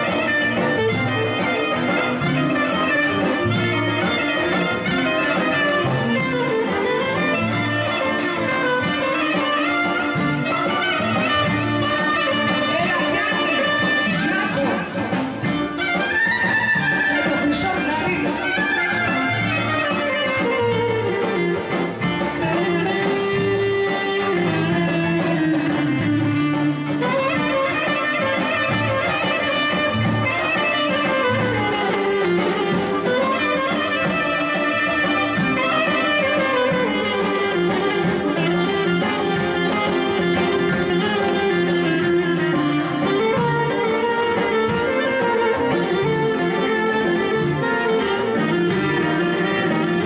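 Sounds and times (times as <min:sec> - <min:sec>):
clarinet melody: 0:00.0 - 0:50.0
plucked-string accompaniment: 0:00.0 - 0:50.0
violin melody: 0:00.0 - 0:50.0.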